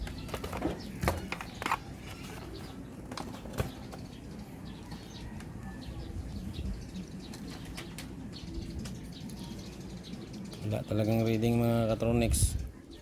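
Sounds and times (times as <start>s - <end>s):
birds chirping: 0.0s - 13.0s
pigeons cooing: 0.0s - 13.0s.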